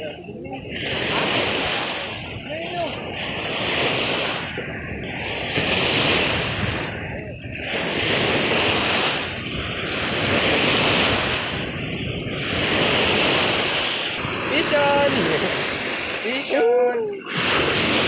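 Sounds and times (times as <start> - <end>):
lake waves washing on shore: 0.0 - 18.0
wind rumbling on microphone: 0.0 - 18.0.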